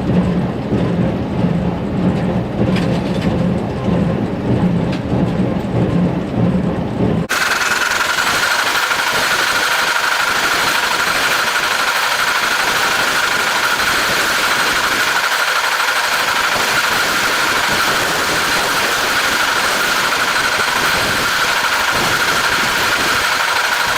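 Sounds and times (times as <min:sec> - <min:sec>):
constant high hum: 0:00.0 - 0:23.9
tractor engine running: 0:00.0 - 0:23.9.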